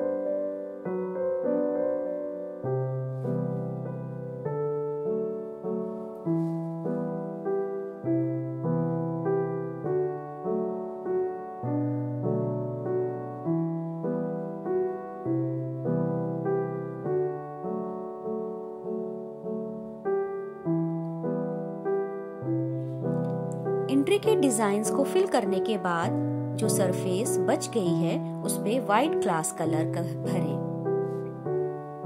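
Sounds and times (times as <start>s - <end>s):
gentle piano music: 0.0s - 32.0s.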